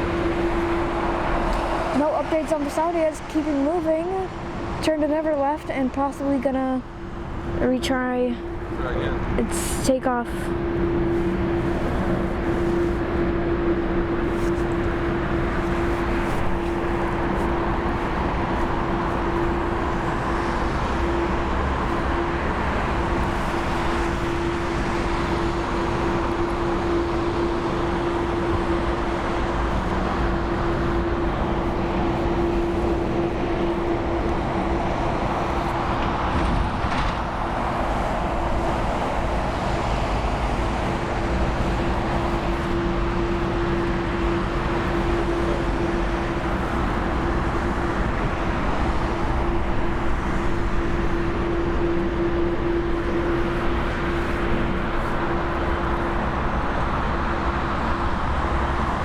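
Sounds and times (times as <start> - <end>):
jet engine droning: 0.0 - 59.0.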